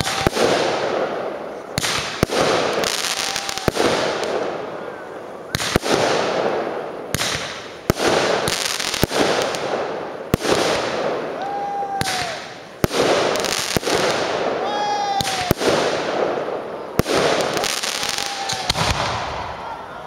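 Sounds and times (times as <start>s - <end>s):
crackling hiss: 0.0s - 19.8s
fireworks bursting with bangs: 0.0s - 20.0s.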